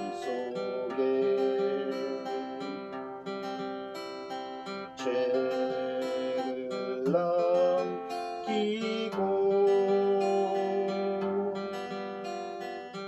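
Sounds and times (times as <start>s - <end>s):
person singing: 0.0s - 12.6s
acoustic guitar strumming: 0.0s - 13.0s.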